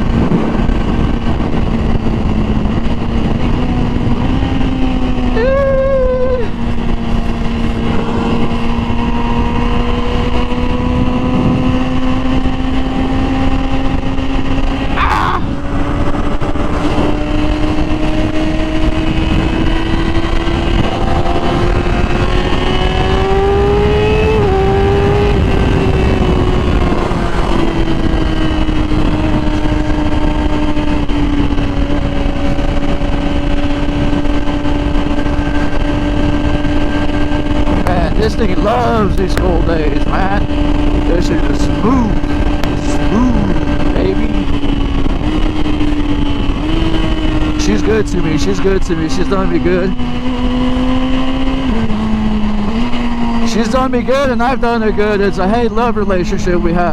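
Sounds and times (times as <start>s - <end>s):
motorcycle engine cruising: 0.0s - 56.9s
rushing wind noise: 0.0s - 56.9s.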